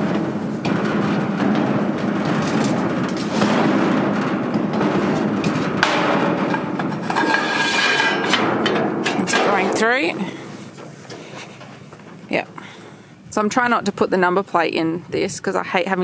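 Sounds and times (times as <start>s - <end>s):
metal trailer knocks and rattles: 0.0s - 13.8s.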